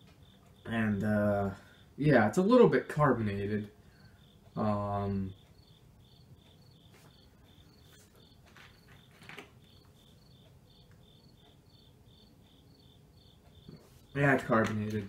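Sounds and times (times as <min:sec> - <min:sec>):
cricket chirping: 0:00.0 - 0:03.2, 0:03.8 - 0:15.0.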